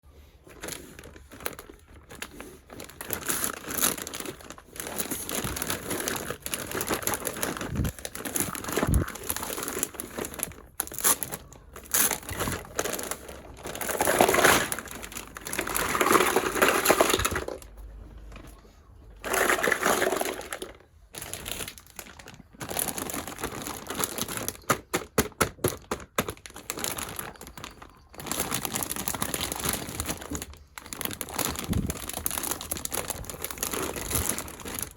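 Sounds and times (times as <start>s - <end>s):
packaging crinkling: 0.4s - 34.9s.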